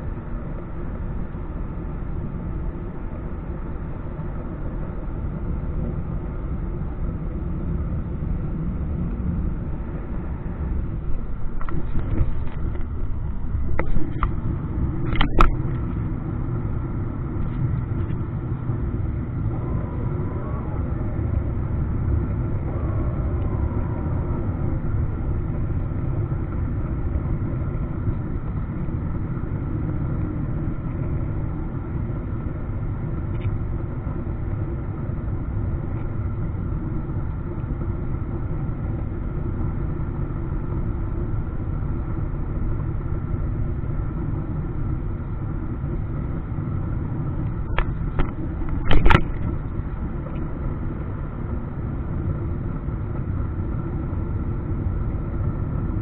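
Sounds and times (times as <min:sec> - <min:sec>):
jet engine rumble: 0:00.0 - 0:56.0.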